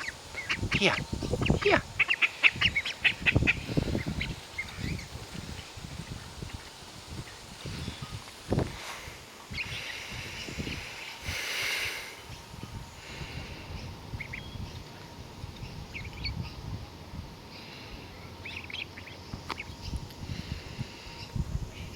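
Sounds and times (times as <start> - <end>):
ducklings peeping: 0.0 - 8.7, 9.4 - 21.9.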